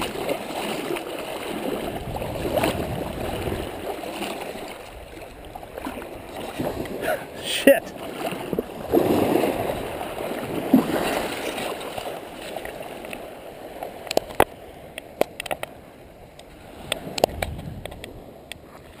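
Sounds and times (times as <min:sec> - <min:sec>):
shallow surf sloshing: 0:00.0 - 0:19.0.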